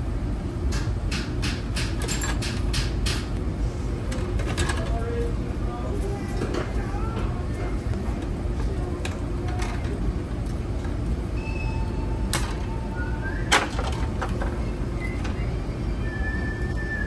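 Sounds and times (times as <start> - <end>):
low machinery rumble: 0.0 - 17.0.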